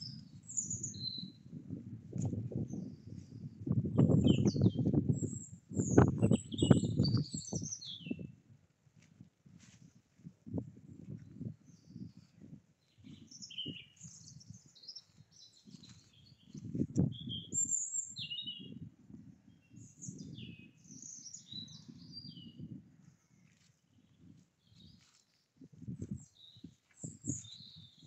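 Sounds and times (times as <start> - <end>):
songbirds chirping and singing: 0.0 - 1.5, 2.7 - 8.4, 11.1 - 18.8, 19.4 - 25.4, 26.0 - 28.0.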